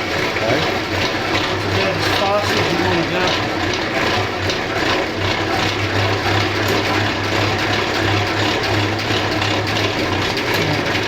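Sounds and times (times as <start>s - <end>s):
honey extractor spinning: 0.0s - 11.0s.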